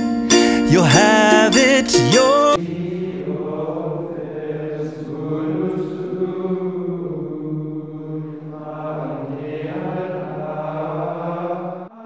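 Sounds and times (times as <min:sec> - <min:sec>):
male liturgical chant: 0:00.7 - 0:12.0.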